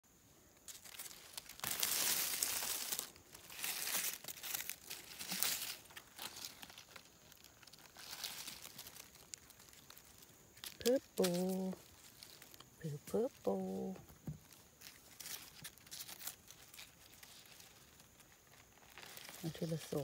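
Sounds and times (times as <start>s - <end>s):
dry leaves rustling and crinkling: 0.4s - 20.0s.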